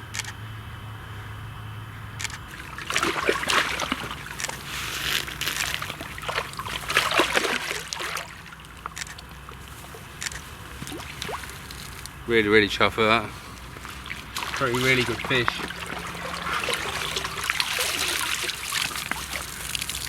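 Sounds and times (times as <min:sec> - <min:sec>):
steady low hum: 0:00.0 - 0:20.0
water splashing and sloshing: 0:02.2 - 0:20.0.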